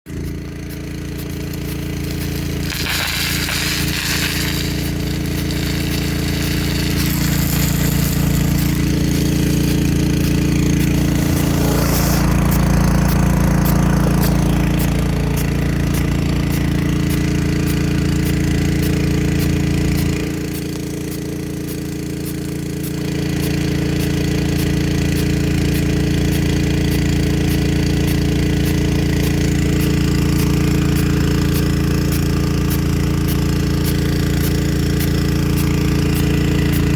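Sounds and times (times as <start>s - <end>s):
pump humming: 0.1s - 36.9s
sprinkler jet hissing: 0.1s - 36.9s.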